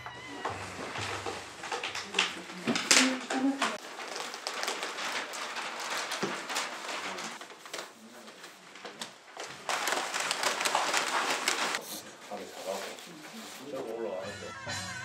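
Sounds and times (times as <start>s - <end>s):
paper rustling and crinkling: 0.1s - 14.2s.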